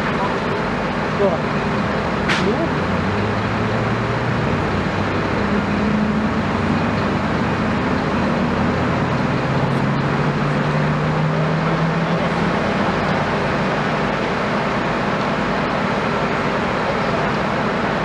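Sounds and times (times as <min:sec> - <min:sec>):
large engine running: 0:00.0 - 0:18.0
noisy rumble: 0:00.0 - 0:18.0.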